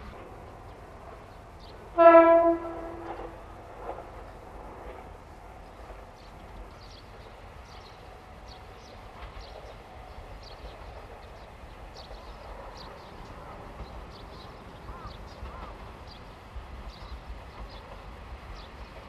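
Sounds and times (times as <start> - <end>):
diesel railcar rumbling: 0.0 - 19.0.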